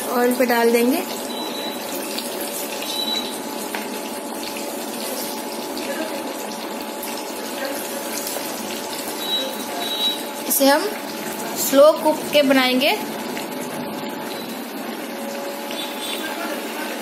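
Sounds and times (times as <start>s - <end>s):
oil bubbling and sizzling: 0.0s - 17.0s.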